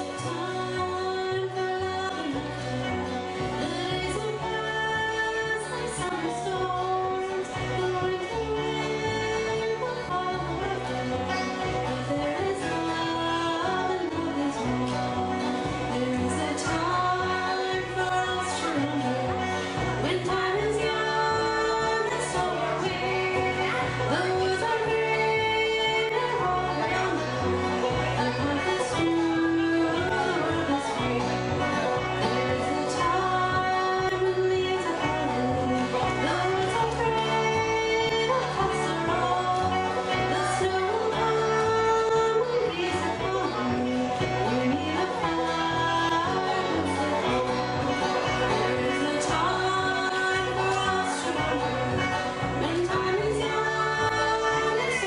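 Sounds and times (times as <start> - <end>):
banjo or mandolin: 0.0 - 55.0
double bass beat: 0.0 - 55.0
fiddle: 0.0 - 55.0
guitar: 0.0 - 55.0.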